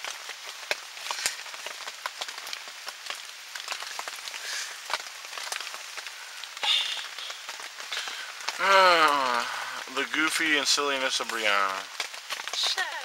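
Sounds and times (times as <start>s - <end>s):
rain on tent fabric: 0.0s - 13.0s.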